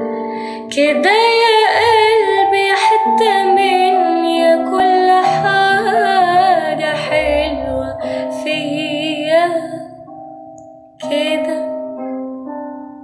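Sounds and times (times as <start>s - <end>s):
woman singing a slow ballad: 0.0s - 10.1s, 11.0s - 11.8s.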